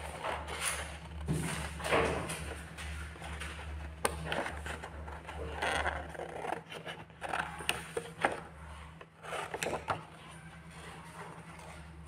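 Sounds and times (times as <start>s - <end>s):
low electrical hum: 0.0s - 12.0s
paper rustling and scraping: 0.0s - 12.0s.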